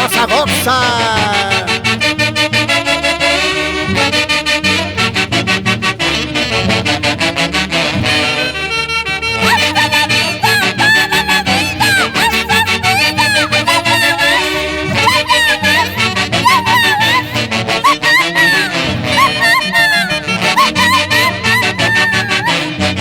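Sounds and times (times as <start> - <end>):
wind instruments playing melody: 0.0 - 23.0.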